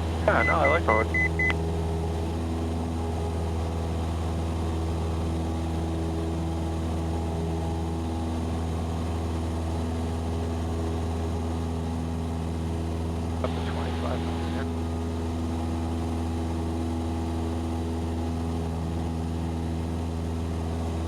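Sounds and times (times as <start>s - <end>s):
propeller airplane engine droning: 0.0s - 21.0s.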